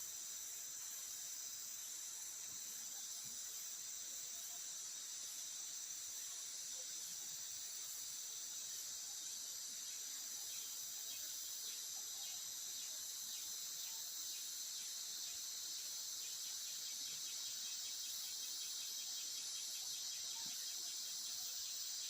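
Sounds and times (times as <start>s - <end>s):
chorus of forest insects: 0.0s - 22.0s.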